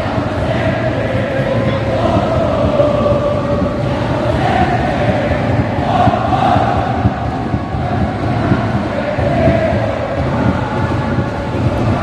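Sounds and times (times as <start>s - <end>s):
stadium crowd chanting: 0.0s - 12.0s.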